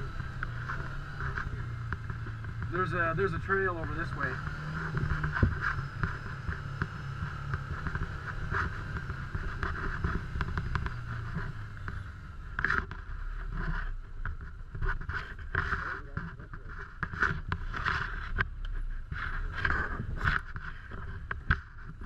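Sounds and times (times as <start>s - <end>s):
cab knocking and rattling: 0.0s - 22.0s
utility vehicle engine running: 0.0s - 22.0s.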